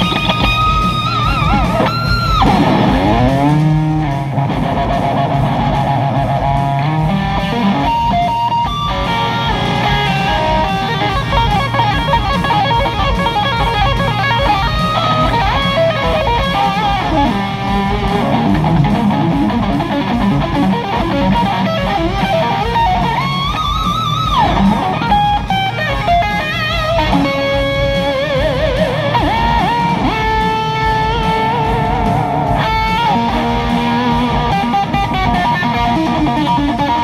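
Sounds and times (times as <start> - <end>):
electric guitar solo: 0.0 - 37.0.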